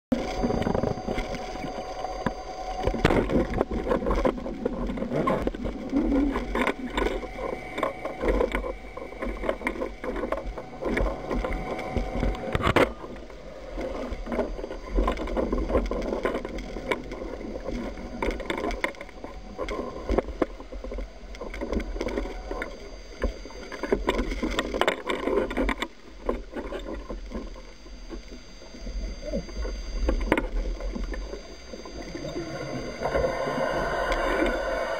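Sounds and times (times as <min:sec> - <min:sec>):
underwater water rush: 0:00.1 - 0:34.9
underwater clicks and knocks: 0:00.2 - 0:28.3.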